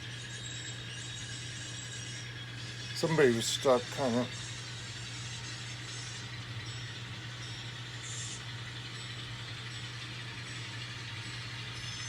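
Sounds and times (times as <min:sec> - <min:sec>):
model locomotive diesel engine drone: 0:00.0 - 0:12.0.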